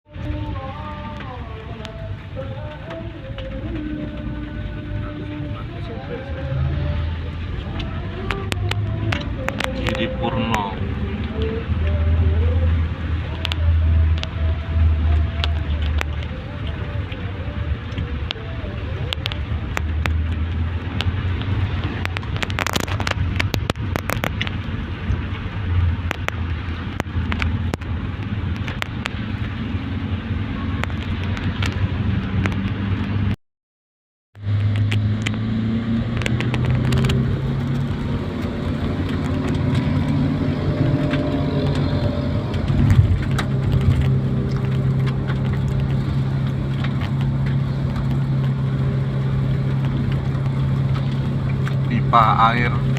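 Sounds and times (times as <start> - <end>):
vehicle engine humming: 0.0 - 33.4, 34.4 - 52.9.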